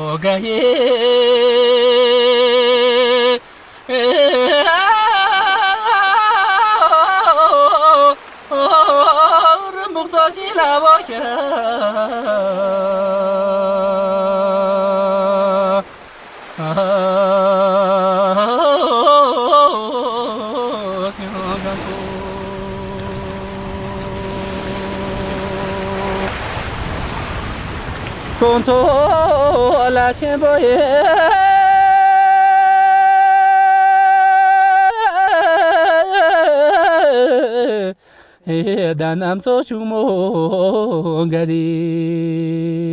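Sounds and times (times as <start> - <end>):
person singing folk song: 0.0 - 16.0, 16.6 - 42.9.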